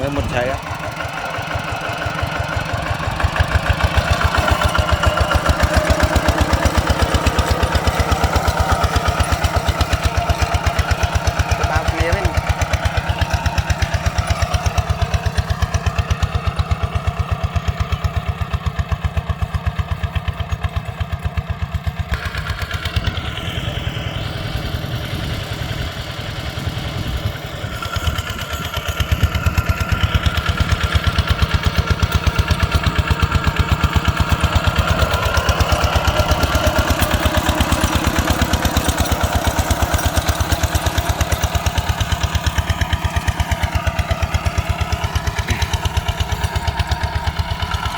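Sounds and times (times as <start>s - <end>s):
diesel tractor engine thumping: 0.0s - 24.1s, 25.2s - 47.9s.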